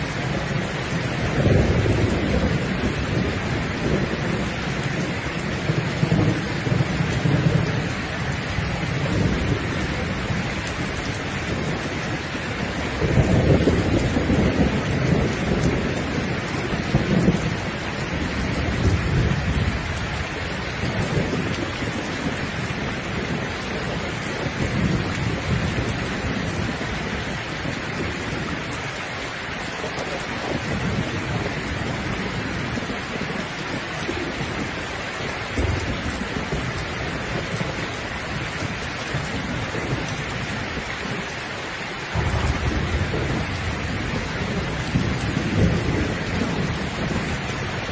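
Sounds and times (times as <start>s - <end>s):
low rolling thunder: 0.0s - 47.9s
steady rain: 0.0s - 47.9s.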